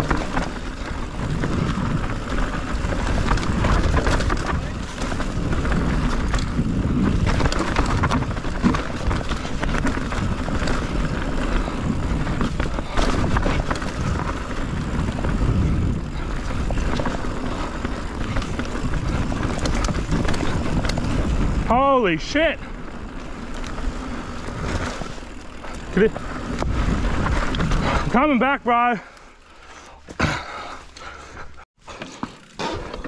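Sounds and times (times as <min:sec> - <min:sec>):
bike knocking and rattling: 0:00.0 - 0:33.0
wind and tyre noise: 0:00.0 - 0:33.0.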